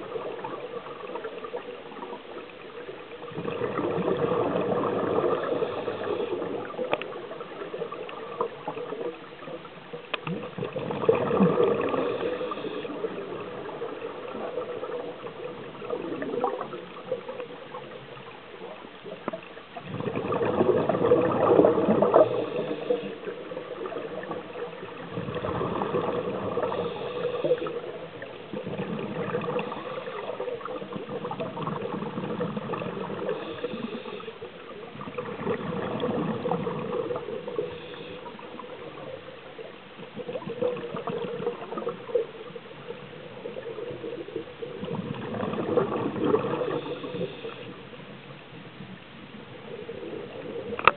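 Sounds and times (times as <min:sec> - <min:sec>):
bubbles gurgling: 0:00.0 - 0:47.8
underwater wash: 0:00.0 - 0:50.9.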